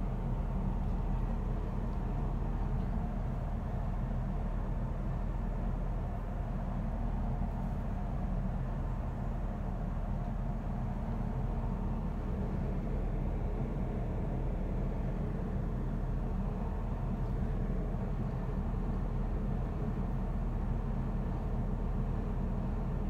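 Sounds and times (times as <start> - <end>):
train carriage rumble: 0.0 - 23.0.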